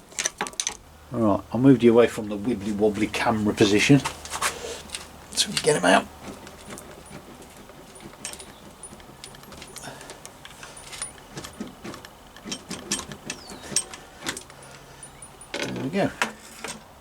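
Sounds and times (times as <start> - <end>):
metal tools clinking: 2.6 - 16.9.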